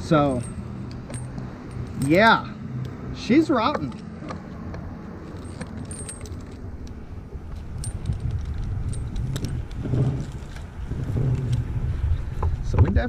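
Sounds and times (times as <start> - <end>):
metal climbing hardware jingling: 0.0 - 11.6
steady low rumble: 0.0 - 13.0.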